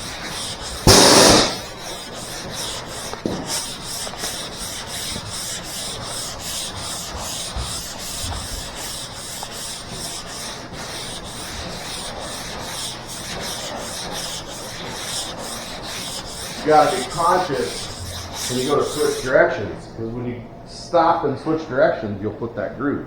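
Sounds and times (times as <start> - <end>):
sandpaper scratching on filler: 0.0 - 19.4.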